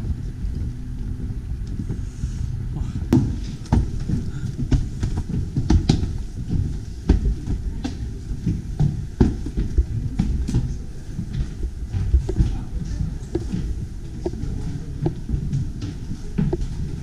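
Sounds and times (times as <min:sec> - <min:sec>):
footsteps on wooden stairs: 0:00.0 - 0:17.0.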